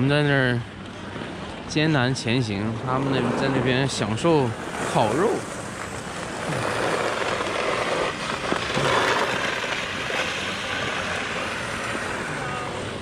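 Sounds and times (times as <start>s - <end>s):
ice skates scraping on ice: 2.4s - 13.0s.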